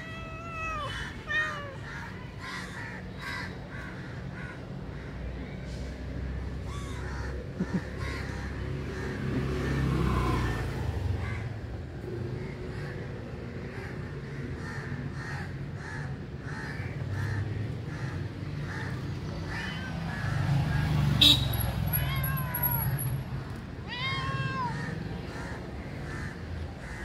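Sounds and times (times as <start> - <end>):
crows cawing: 0.0 - 5.6, 6.3 - 11.8, 12.4 - 21.0, 24.0 - 27.0.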